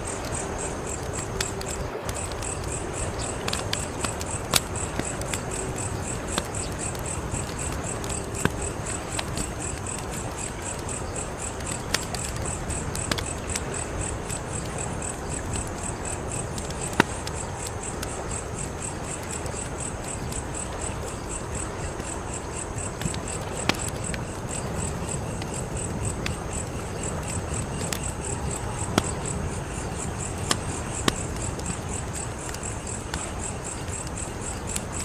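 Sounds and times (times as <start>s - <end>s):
crickets chirping: 0.0s - 35.0s
wood fire crackling: 0.0s - 35.0s.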